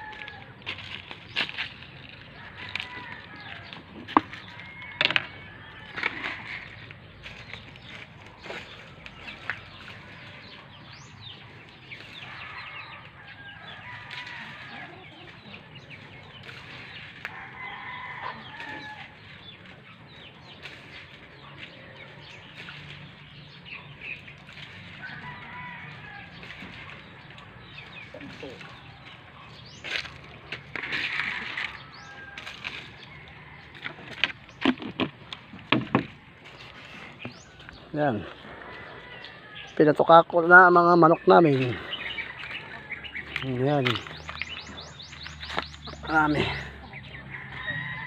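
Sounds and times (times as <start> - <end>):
chickens clucking: 0.0 - 48.0.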